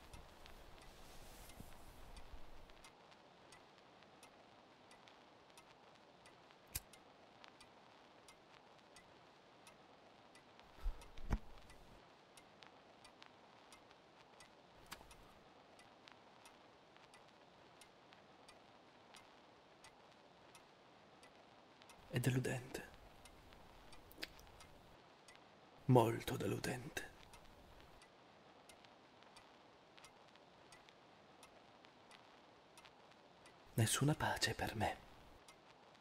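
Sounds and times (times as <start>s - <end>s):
clock ticking: 0.0s - 35.7s.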